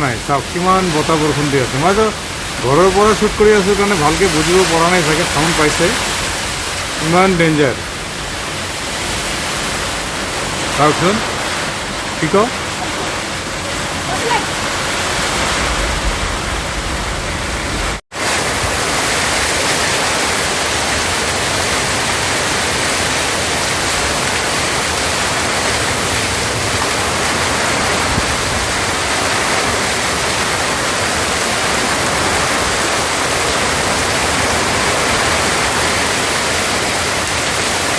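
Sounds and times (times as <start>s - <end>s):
heavy rain in strong wind: 0.0s - 37.9s.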